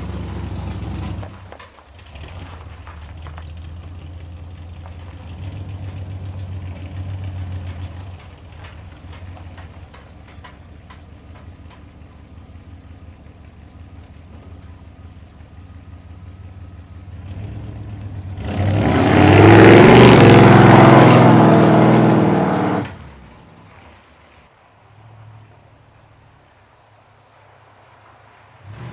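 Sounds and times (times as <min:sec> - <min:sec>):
pickup truck engine accelerating: 0:00.0 - 0:28.9.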